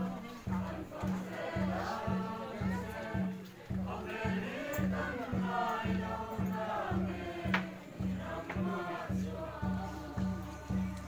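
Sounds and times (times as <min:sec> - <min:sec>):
crowd singing in chorus: 0:00.0 - 0:11.0
steady low beat: 0:00.0 - 0:11.0.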